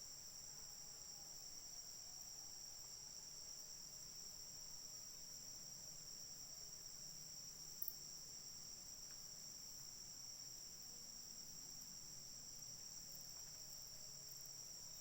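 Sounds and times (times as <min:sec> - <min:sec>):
high-pitched insect chorus: 0:00.1 - 0:15.0.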